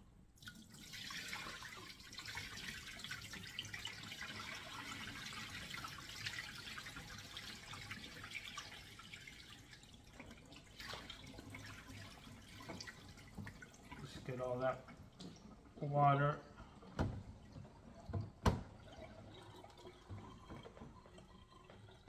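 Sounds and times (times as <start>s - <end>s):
tap water splashing into sink: 0.4s - 15.8s, 16.6s - 22.0s
meat rinsed by hand in tub: 0.4s - 22.0s.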